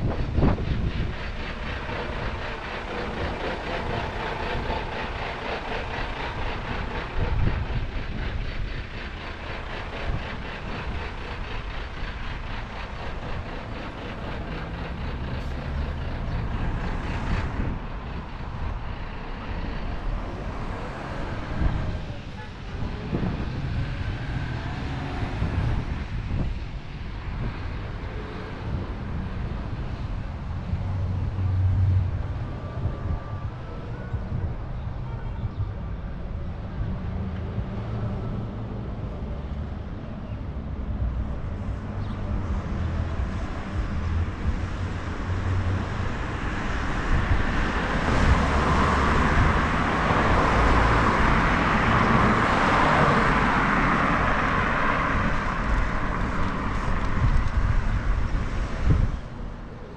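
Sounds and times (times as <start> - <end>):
truck diesel engine running: 0.0 - 59.8
road traffic: 0.0 - 59.9
wind gusts on microphone: 0.0 - 59.9.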